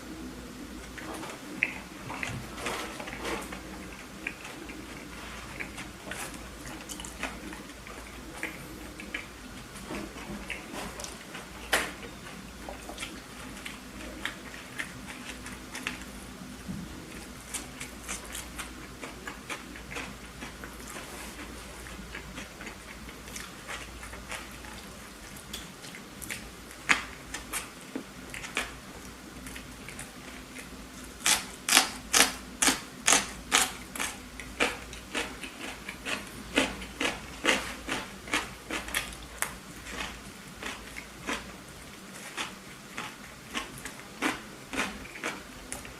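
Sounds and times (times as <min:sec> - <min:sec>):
person chewing food: 0:00.8 - 0:45.9.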